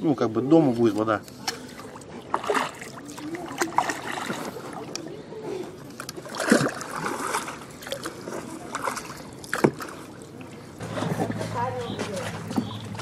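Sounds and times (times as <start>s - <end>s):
floodwater sloshing and splashing: 0.0s - 13.0s.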